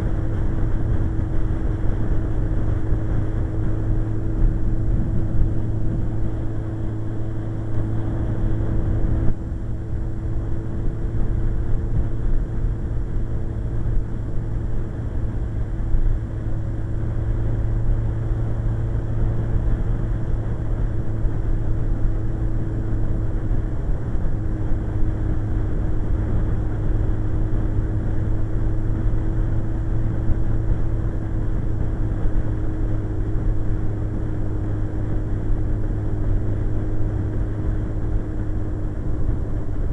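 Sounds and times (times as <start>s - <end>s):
motorcycle engine cruising: 0.0s - 39.9s
wind rumble: 0.0s - 39.9s.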